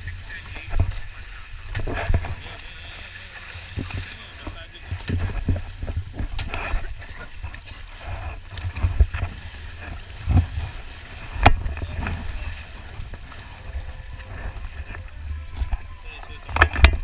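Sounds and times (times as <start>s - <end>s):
boat moving through water: 0.0s - 17.0s
wind rumbling on microphone: 0.0s - 17.0s.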